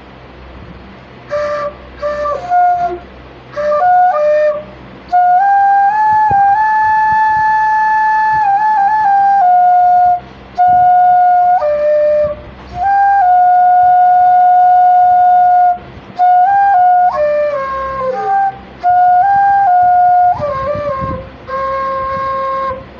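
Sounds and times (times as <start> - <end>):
solo flute slow melody: 1.2 - 22.9.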